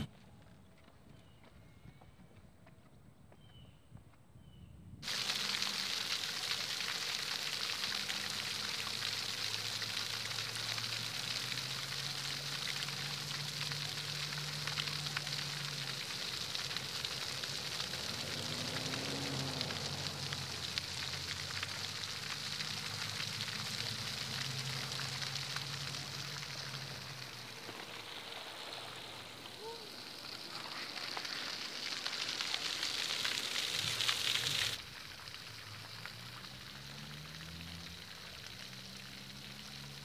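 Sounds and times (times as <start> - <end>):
crackling hiss: 5.0 - 40.0.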